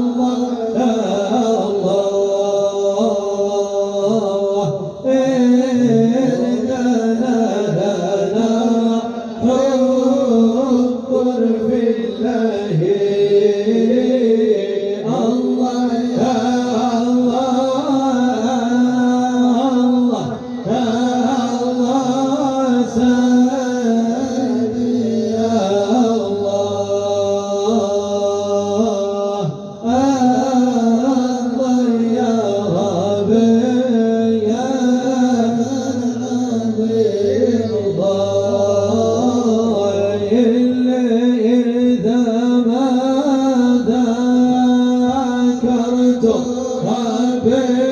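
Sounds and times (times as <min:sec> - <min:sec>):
melismatic sung chant: 0:00.0 - 0:47.9.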